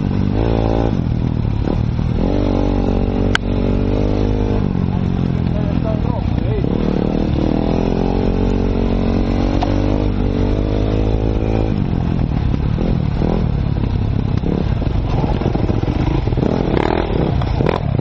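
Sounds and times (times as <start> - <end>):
dirt bike engine: 0.0 - 18.0.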